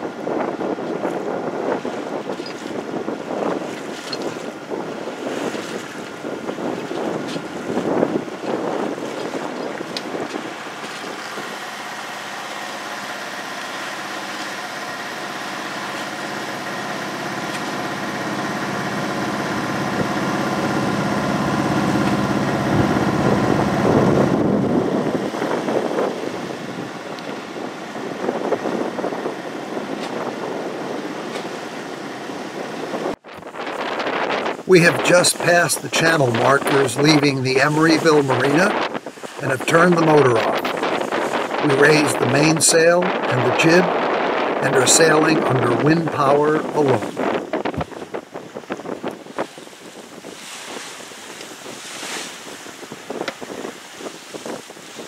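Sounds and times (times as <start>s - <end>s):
boat motor running: 0.0s - 55.0s
wind buffeting microphone: 0.0s - 55.0s.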